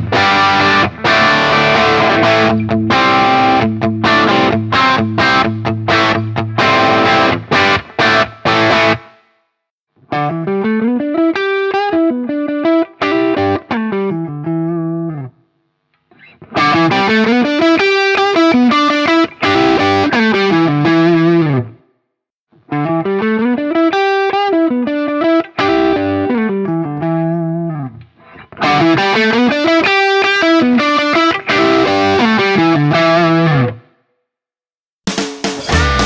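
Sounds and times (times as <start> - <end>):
overdriven electric guitar: 0.0 - 9.2, 10.0 - 15.4, 16.0 - 21.8, 22.7 - 33.9, 35.6 - 36.0.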